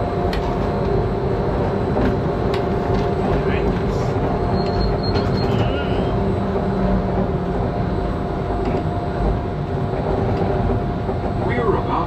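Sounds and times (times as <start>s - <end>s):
monorail rolling rumble: 0.0s - 12.0s.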